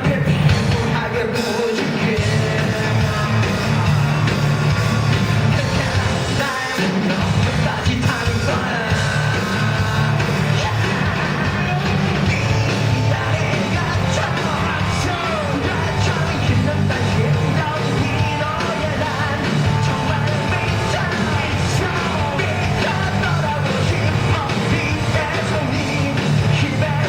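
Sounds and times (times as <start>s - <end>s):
person singing and yelling: 0.0s - 27.0s
rock band playing: 0.0s - 27.0s.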